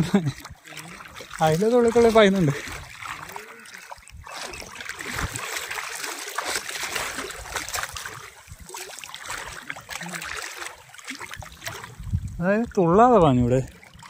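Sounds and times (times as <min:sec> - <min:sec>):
river water sloshing around legs: 0:00.0 - 0:14.0
small water splashes: 0:00.0 - 0:14.0.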